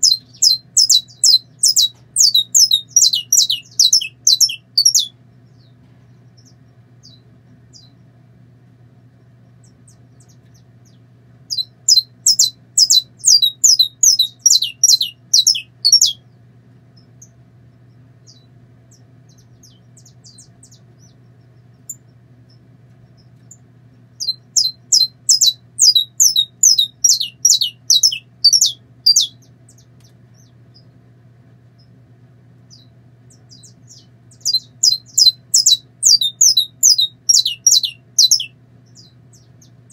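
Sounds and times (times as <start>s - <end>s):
finch singing high sharp notes: 0.0s - 8.0s, 9.6s - 16.3s, 18.2s - 23.6s, 24.2s - 30.9s, 32.7s - 39.9s
faint low hum: 0.0s - 39.9s.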